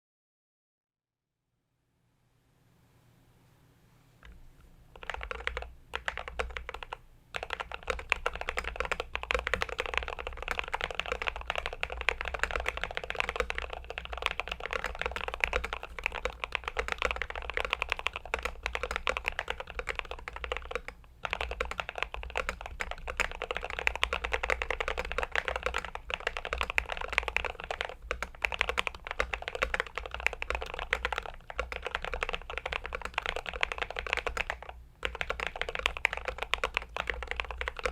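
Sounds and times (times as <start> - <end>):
mechanical keyboard typing: 4.2 - 37.9.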